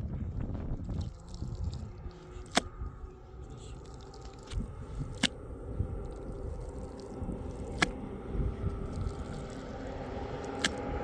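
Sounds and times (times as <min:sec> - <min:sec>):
wet mud squelching and scraping: 0:00.0 - 0:11.0.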